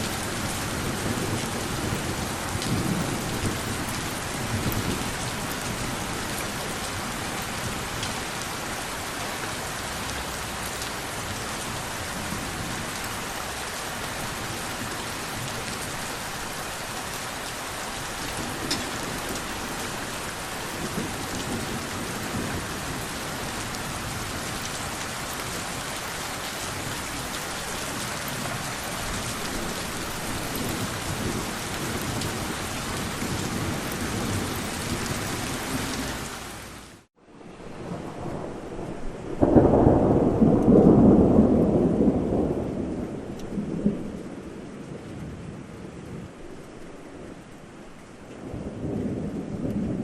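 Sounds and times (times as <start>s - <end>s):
thunder rumbling: 0.0s - 8.6s, 14.2s - 36.6s, 37.3s - 47.4s, 48.0s - 50.0s
rain falling: 0.0s - 50.0s.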